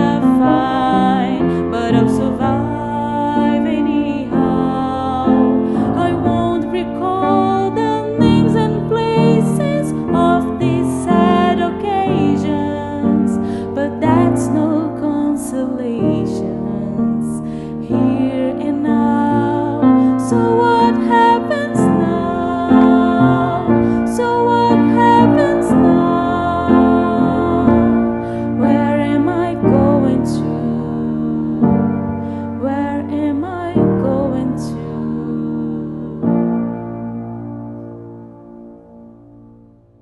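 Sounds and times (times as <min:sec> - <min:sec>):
woman singing a ballad: 0:00.0 - 0:36.8
piano accompaniment: 0:00.0 - 0:40.0.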